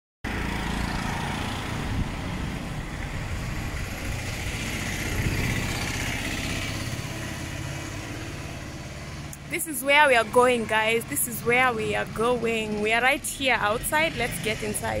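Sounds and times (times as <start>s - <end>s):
vehicle engine and road noise: 0.2s - 15.0s.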